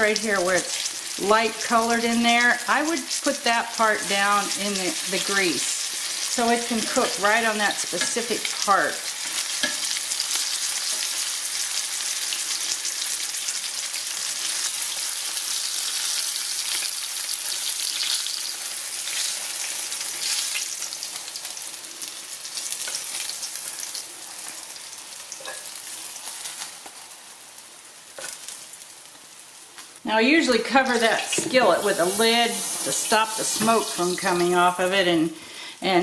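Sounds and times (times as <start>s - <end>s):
fish frying in hot oil: 0.0s - 30.0s.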